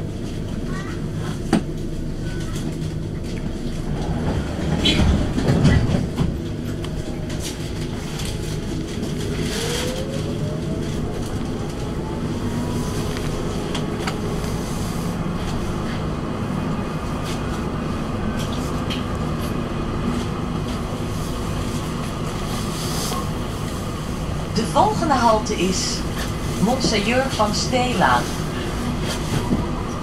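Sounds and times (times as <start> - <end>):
electric tram whine: 0.0 - 30.0
wheels rumbling on rails: 0.0 - 30.0.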